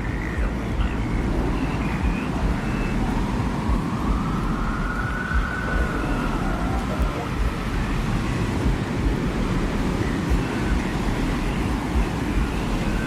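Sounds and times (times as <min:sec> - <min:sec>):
low rumble of wind: 0:00.0 - 0:13.0
thin whistling tone: 0:00.0 - 0:13.0.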